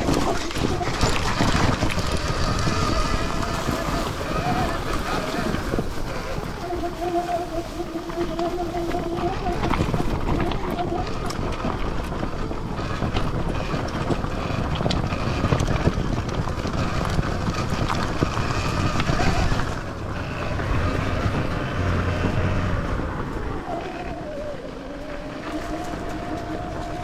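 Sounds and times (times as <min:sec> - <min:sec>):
faint electric motor whine: 0:00.0 - 0:27.0
tyre and ground noise: 0:00.0 - 0:27.0
wind on microphone: 0:00.0 - 0:27.0.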